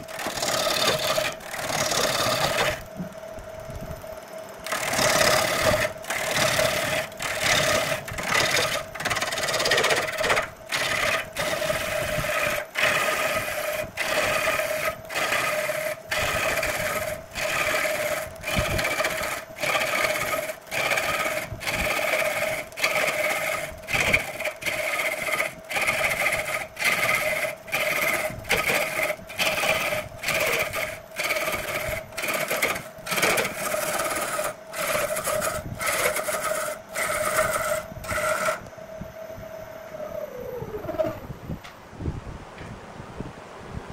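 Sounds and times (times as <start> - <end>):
tool scraping spinning wood: 0.0 - 38.7, 39.8 - 41.3
lathe motor hum: 0.0 - 41.2.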